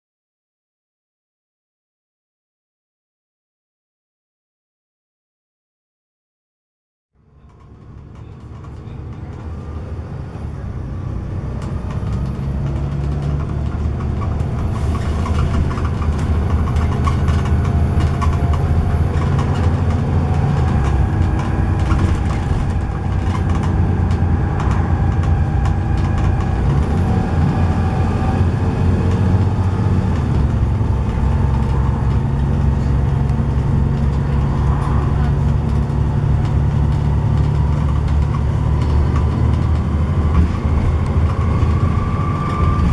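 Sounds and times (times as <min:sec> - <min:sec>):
bus diesel engine drone: 0:07.2 - 0:42.9
bus body rattling: 0:07.3 - 0:42.9.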